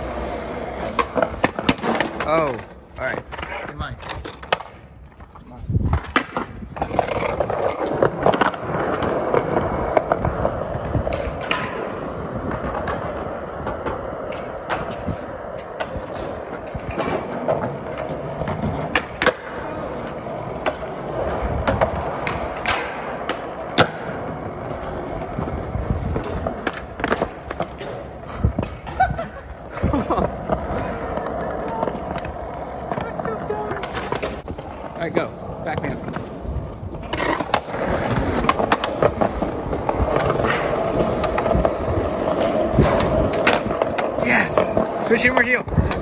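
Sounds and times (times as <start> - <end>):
skateboard clacks: 0.0 - 46.0
skateboard wheels rumbling on concrete: 0.0 - 46.0.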